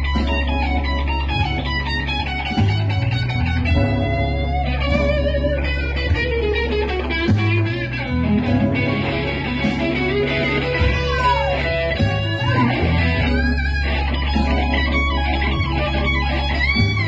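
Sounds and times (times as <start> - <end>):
electric guitar blues solo: 0.0 - 17.0
sustained low bass notes: 0.0 - 17.0.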